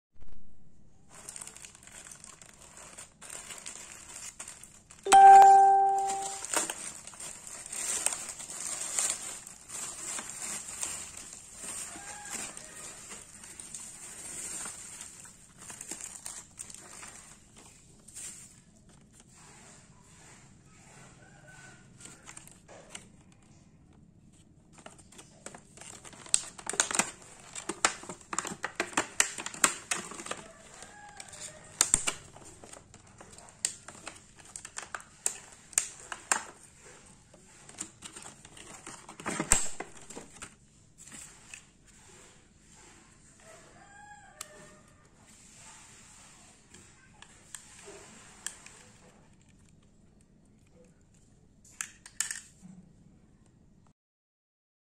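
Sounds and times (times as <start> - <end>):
bubble wrap crinkling and crackling: 1.0 - 23.6, 24.2 - 44.6, 45.2 - 51.3.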